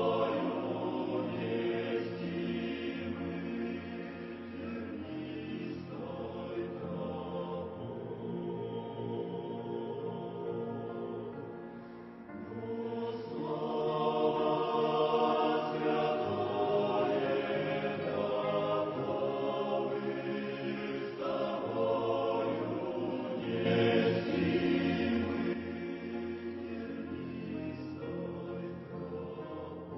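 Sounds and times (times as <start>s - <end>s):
choir singing a hymn: 0.0s - 29.9s.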